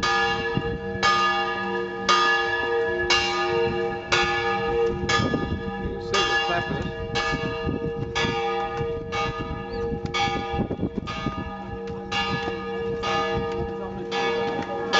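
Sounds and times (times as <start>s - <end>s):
church bell ringing: 0.0s - 14.9s.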